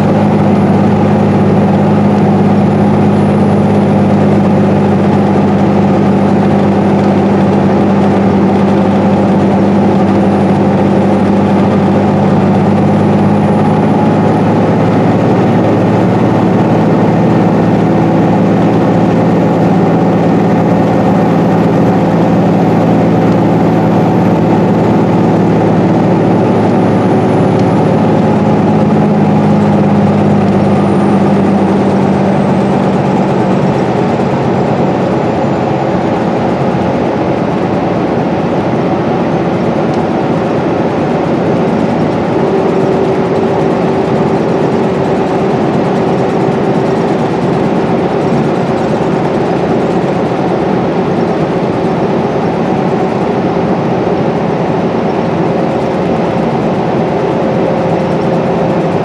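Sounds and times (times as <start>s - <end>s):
bus engine drone: 0.0s - 59.0s
tyre and road noise: 0.0s - 59.0s.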